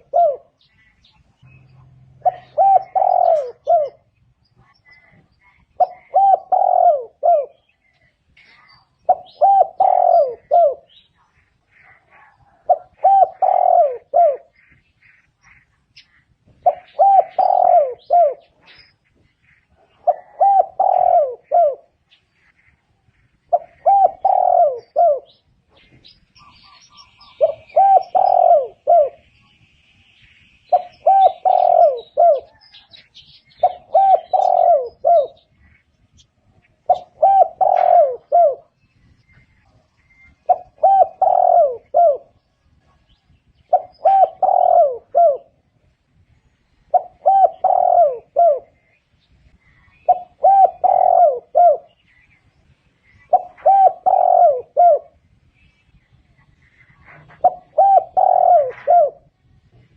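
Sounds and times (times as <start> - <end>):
dove cooing: 0.0 - 15.6, 16.2 - 29.3, 30.7 - 38.8, 39.4 - 46.0, 46.8 - 52.3, 53.0 - 55.2, 56.4 - 59.9.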